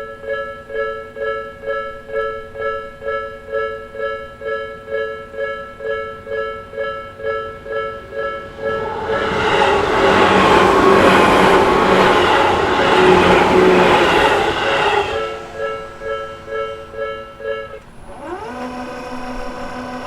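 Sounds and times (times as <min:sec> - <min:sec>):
electric train passing: 0:00.1 - 0:20.0.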